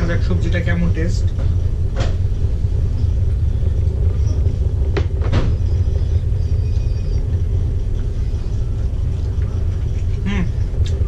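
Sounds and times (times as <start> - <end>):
boat engines rumbling: 0.0 - 11.0.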